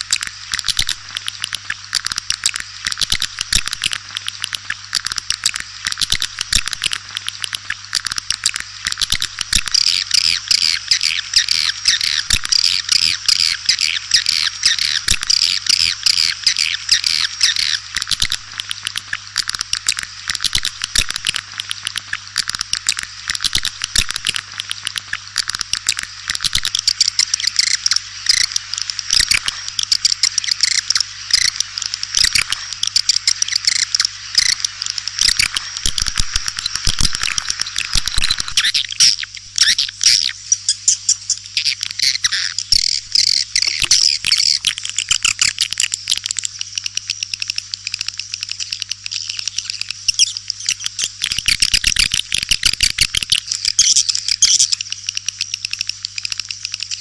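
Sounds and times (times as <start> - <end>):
swiftlets twittering: 0.0 - 57.0.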